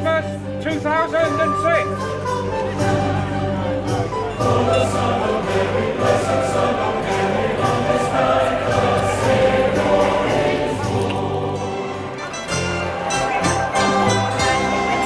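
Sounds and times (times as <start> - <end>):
choir singing: 2.2 - 15.0.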